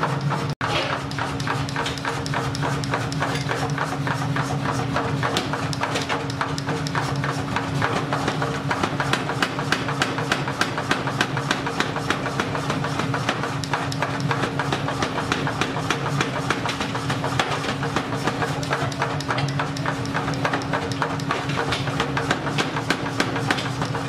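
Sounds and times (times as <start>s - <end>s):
power hammer pounding metal: 0.0s - 24.0s.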